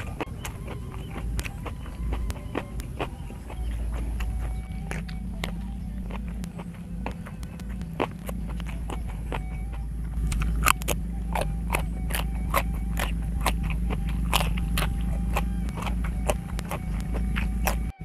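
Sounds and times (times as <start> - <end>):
crunching raw vegetables: 0.0 - 18.0
steady low hum: 0.0 - 18.0.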